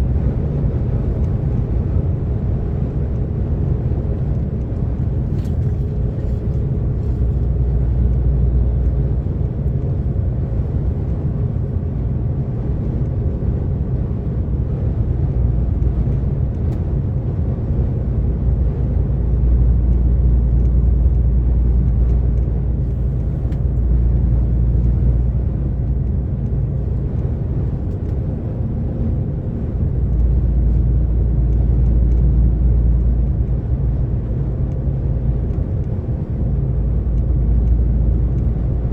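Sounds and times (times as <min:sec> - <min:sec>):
diesel truck engine drone: 0:00.0 - 0:38.9.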